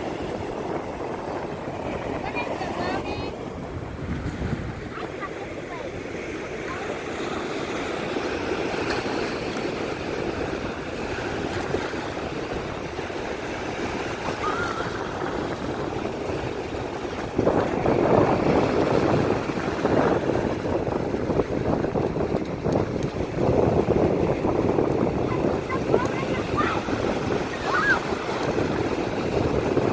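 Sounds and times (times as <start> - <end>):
surf on a beach: 0.0 - 29.9
wind: 0.0 - 29.9.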